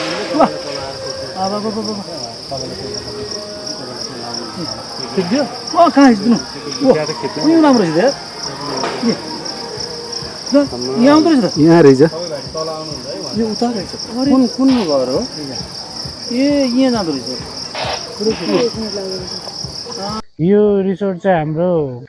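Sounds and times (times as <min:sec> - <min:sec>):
people calling out loudly: 0:00.0 - 0:20.2
insects chirring: 0:00.0 - 0:20.6.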